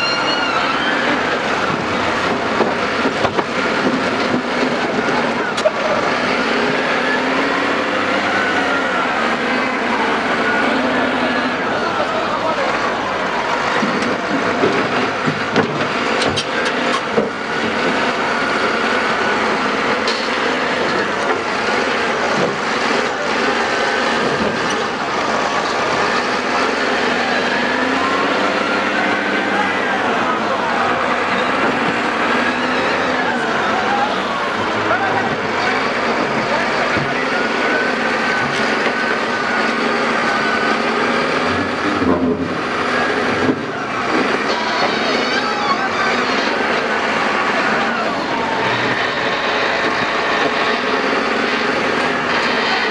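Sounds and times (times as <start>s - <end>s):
heavy machinery diesel engines: 0.0s - 52.9s.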